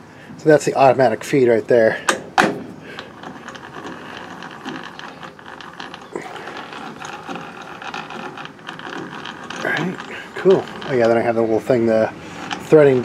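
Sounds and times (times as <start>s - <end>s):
metal gears clicking: 2.1s - 13.0s.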